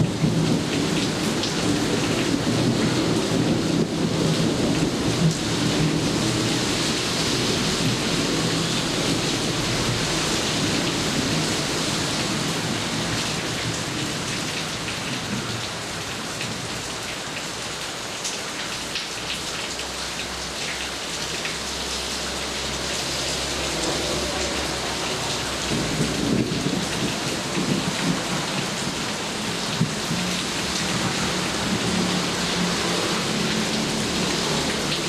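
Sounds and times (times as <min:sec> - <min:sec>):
heavy rain falling: 0:00.0 - 0:35.0
rain drops tapping: 0:00.0 - 0:35.0.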